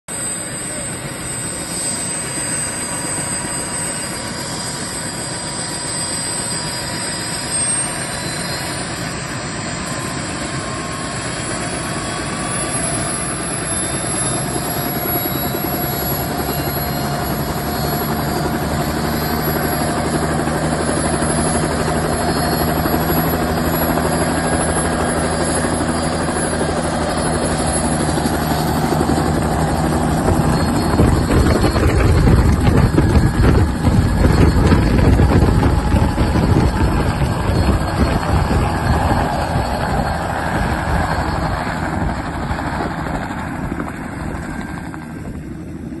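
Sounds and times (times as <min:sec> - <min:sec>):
helicopter turbine and rotor: 0:00.1 - 0:46.0.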